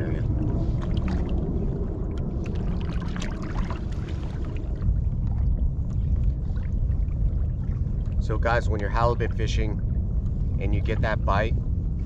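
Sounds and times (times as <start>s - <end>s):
waves lapping against hull: 0.0s - 12.0s
wind rumble on microphone: 0.0s - 12.0s.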